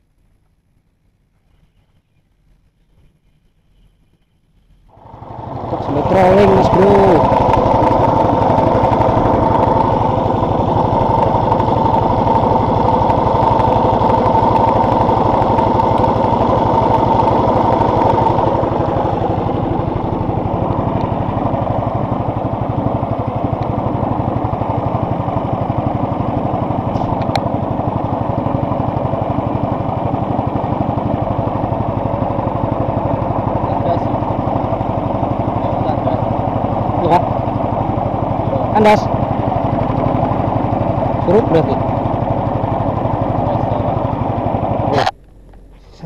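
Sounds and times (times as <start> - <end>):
boat engine running: 4.9 - 46.0.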